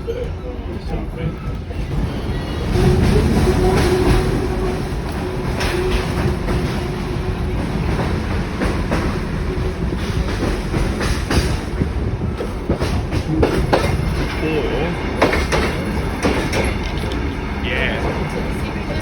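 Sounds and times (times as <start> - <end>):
train rumbling along track: 0.0 - 19.0
wheels clicking over rails: 1.4 - 19.0.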